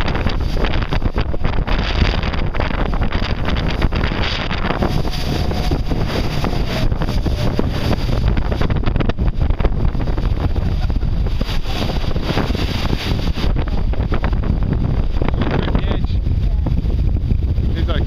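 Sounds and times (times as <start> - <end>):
breaking foaming water: 0.0 - 17.8
wind buffeting microphone: 0.0 - 18.0.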